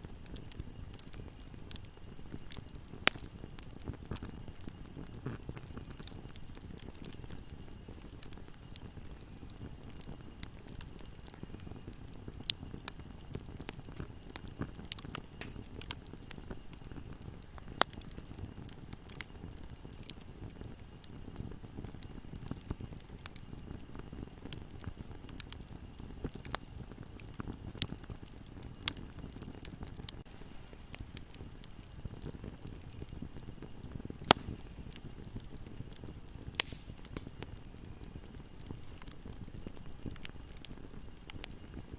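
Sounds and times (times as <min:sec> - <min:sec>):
burning wood crackling and popping: 0:00.0 - 0:41.9
low rush of flames: 0:00.0 - 0:41.9.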